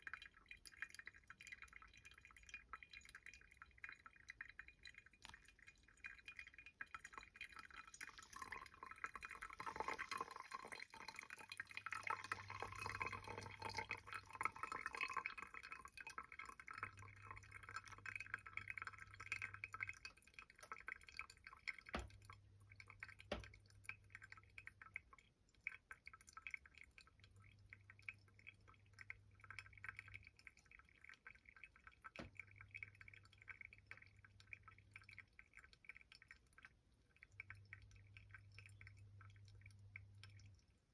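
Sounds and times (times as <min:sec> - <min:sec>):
water pouring and dripping: 0:00.0 - 0:40.9.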